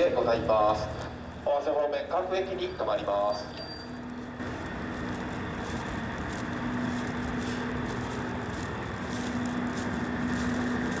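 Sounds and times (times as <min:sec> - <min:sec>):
diesel railcar engine idling: 0:00.0 - 0:11.0.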